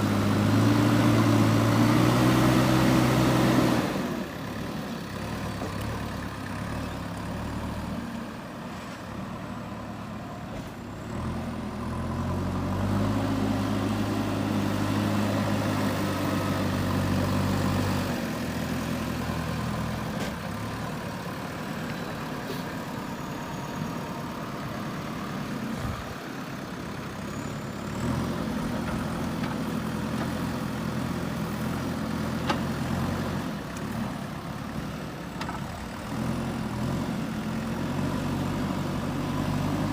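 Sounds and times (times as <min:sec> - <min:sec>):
diesel engine revving: 0:00.0 - 0:08.4, 0:09.7 - 0:39.9.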